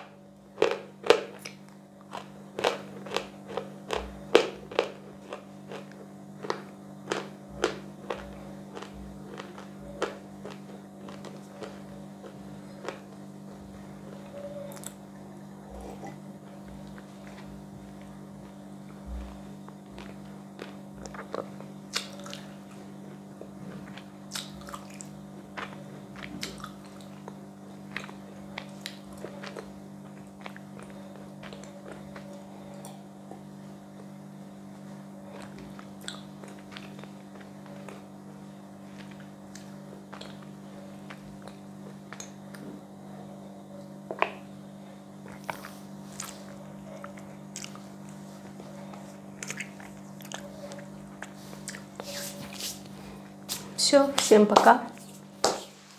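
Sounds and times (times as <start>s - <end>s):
steady low hum: 0.0s - 55.9s
person chewing and crunching: 0.4s - 34.2s, 34.8s - 42.8s, 45.2s - 53.7s.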